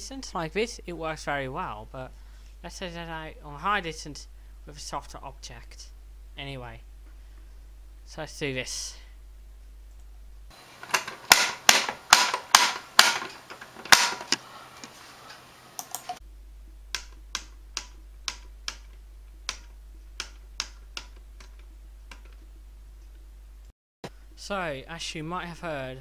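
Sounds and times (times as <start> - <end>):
faint low hum: 0.0 - 10.8, 14.3 - 26.0.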